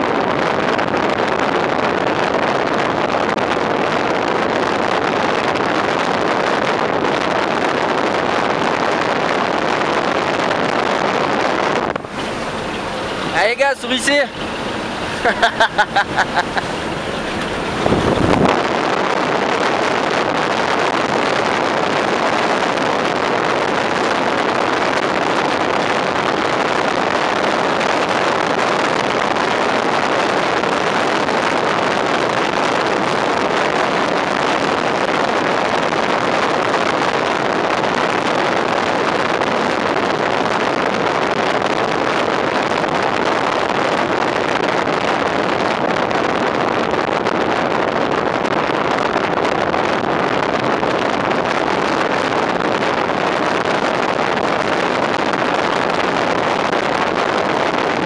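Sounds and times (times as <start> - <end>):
truck road and engine noise: 0.0 - 58.0
wind rushing over microphone: 0.0 - 58.0.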